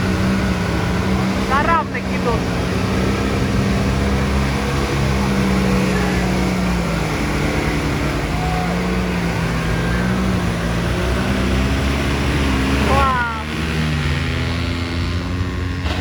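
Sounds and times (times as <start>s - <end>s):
off-road engines running hard: 0.0s - 16.0s.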